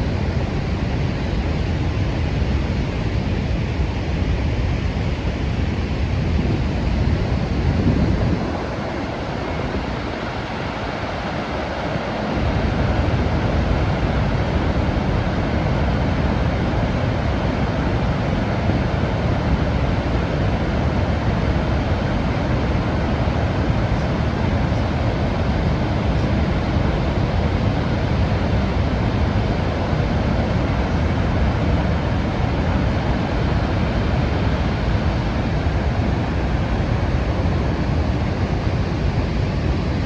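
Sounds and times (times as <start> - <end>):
waterfall roaring: 0.0 - 40.0
wind rumble on microphone: 0.0 - 40.0.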